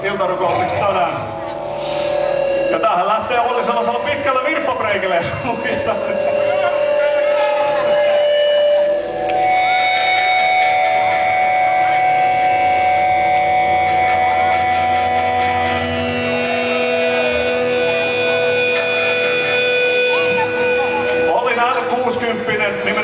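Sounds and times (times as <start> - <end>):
electric guitar sustained notes: 0.0 - 23.0.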